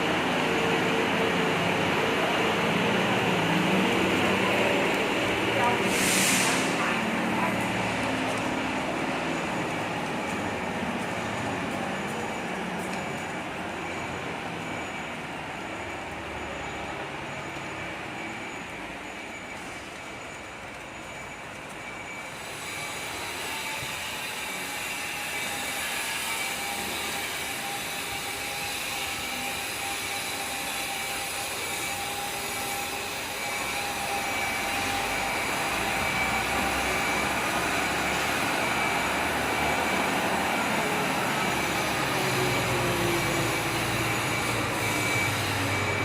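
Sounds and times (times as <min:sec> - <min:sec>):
heavy vehicle noise: 0:00.0 - 0:46.0
thin whining tones: 0:06.4 - 0:46.0.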